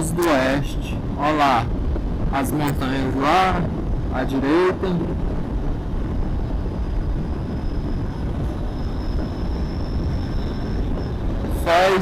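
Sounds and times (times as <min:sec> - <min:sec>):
faint high whine: 0:00.0 - 0:12.0
motorcycle wind and road rumble: 0:00.0 - 0:12.0
wind buffeting microphone: 0:00.0 - 0:12.0.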